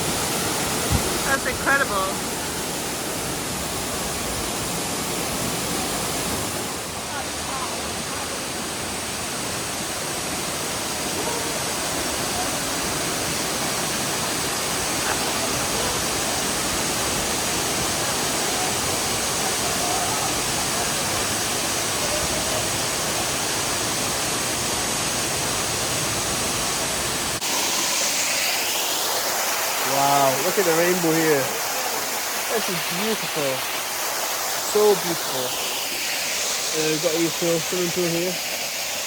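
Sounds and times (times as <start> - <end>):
waterfall pouring and splashing: 0.0 - 39.0.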